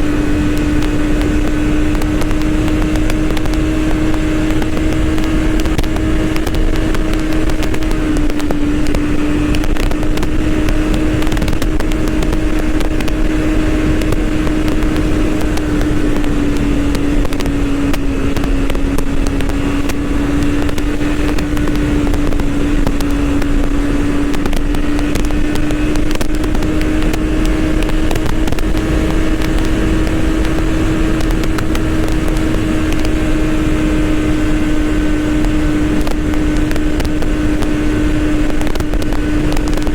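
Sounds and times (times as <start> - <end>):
motorcycle engine running: 0.0 - 39.9
rush of wind noise: 0.0 - 39.9.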